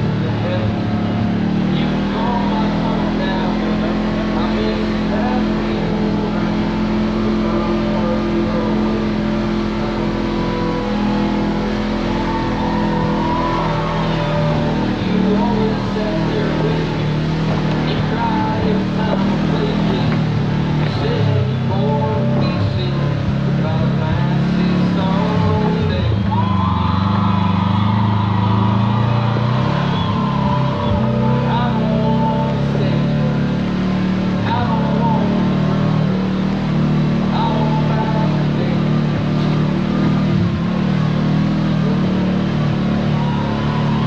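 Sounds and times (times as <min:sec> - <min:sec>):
vehicle engine under throttle: 0:00.0 - 0:44.0.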